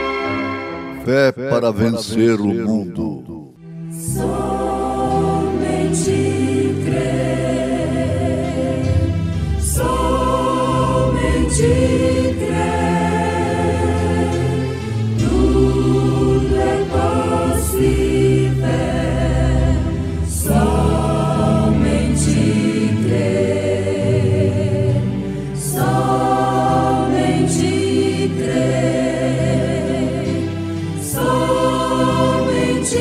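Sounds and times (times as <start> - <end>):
choir singing a hymn: 3.8 - 33.0.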